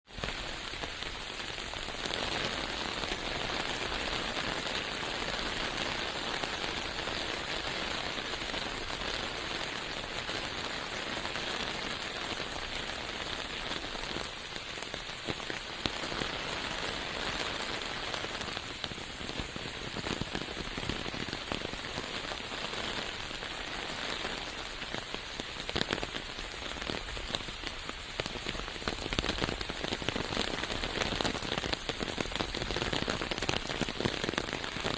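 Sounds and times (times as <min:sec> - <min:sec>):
rain falling in forest: 0:00.0 - 0:34.9.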